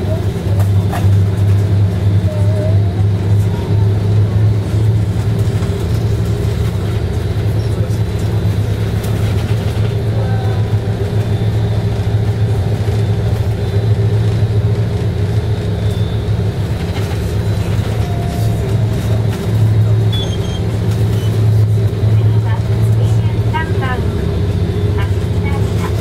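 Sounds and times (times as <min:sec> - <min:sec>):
bus engine drone: 0:00.0 - 0:26.0
road noise: 0:00.0 - 0:26.0.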